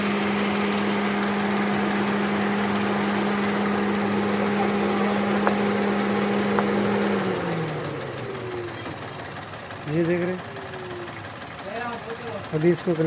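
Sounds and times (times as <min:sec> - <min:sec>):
car engine idling rough: 0:00.0 - 0:13.0.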